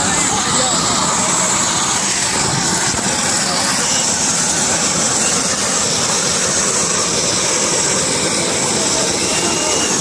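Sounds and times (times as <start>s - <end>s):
helicopter rotor noise: 0.0s - 10.0s
high turbine whine: 0.0s - 10.0s.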